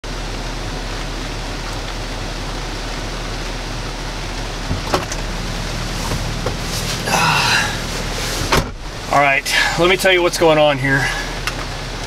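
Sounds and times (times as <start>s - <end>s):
low steady hum: 0.1s - 12.0s
rain on car roof and glass: 0.1s - 12.0s.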